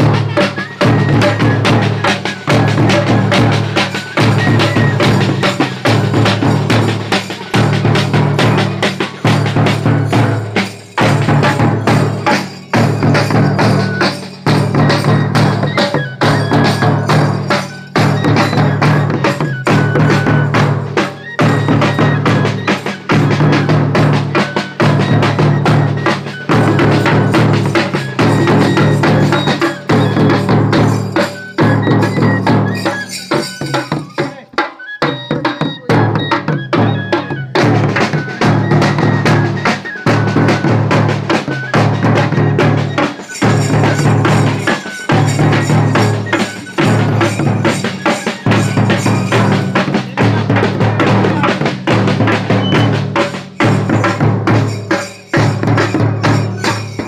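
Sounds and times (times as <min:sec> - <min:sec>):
drums played with sticks: 0:00.0 - 0:57.0.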